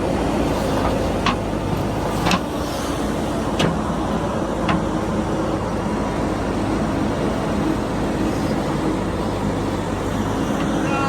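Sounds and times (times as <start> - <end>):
diesel tractor engine rumbling: 0.0 - 11.0.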